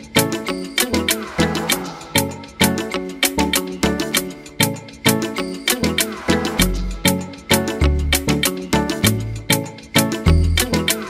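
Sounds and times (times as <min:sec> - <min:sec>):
upbeat music with bass line: 0:00.0 - 0:11.0.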